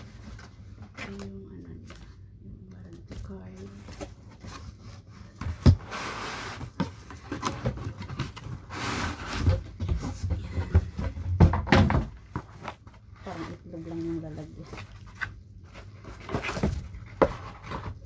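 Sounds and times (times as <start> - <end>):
cardboard and paper rustling: 0.0 - 18.0.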